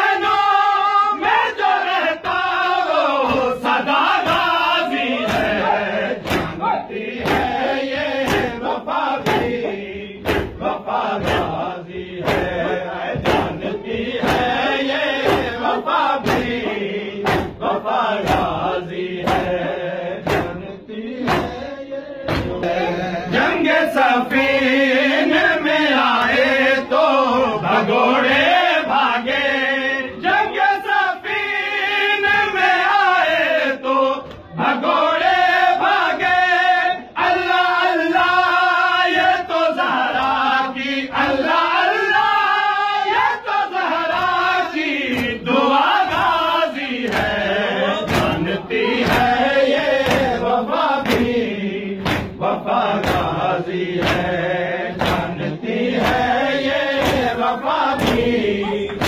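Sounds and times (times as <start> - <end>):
men chanting in unison: 0.0 - 59.0
rhythmic chest-beating: 0.0 - 59.0.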